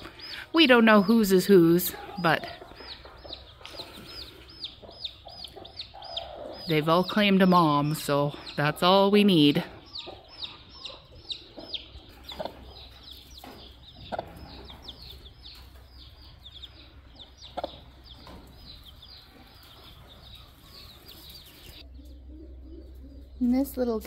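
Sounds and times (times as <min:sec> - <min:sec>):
hens clucking: 0:00.0 - 0:23.4
chicks peeping: 0:00.0 - 0:24.0.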